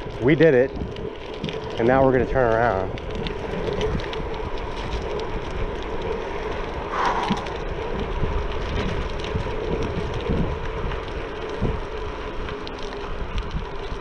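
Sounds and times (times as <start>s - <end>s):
wind rushing over microphone: 0.2s - 14.0s.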